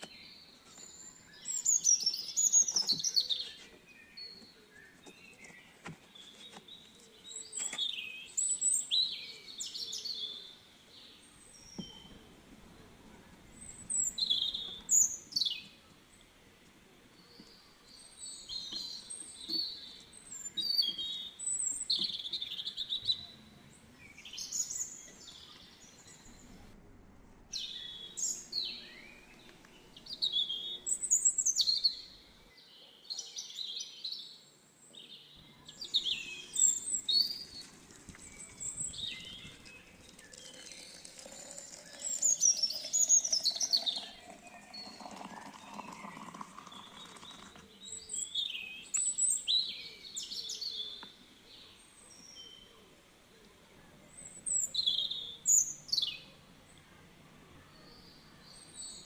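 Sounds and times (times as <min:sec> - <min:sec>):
birds chirping and singing: 0:00.0 - 0:16.3, 0:17.1 - 0:26.7, 0:27.5 - 0:52.9, 0:53.7 - 0:59.0.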